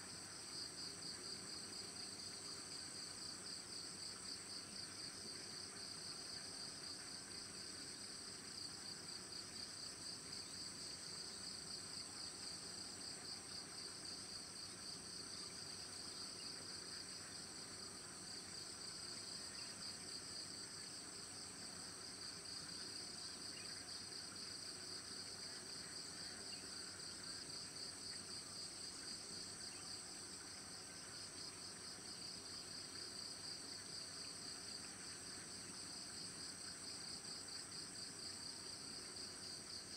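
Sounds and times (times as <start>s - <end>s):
high-pitched insect chorus: 0.1s - 39.9s.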